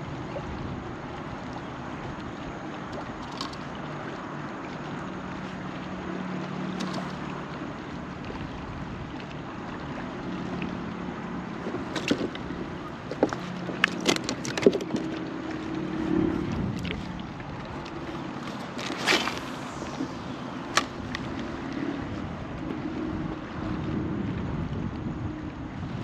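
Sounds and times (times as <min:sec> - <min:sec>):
water washing: 0:00.0 - 0:24.6
wind: 0:00.0 - 0:26.0.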